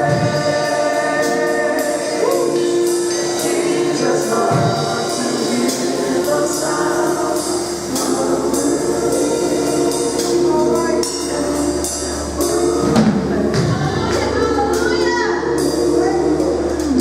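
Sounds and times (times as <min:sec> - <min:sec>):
gospel choir singing: 0:00.0 - 0:17.0
instrumental accompaniment: 0:00.0 - 0:17.0.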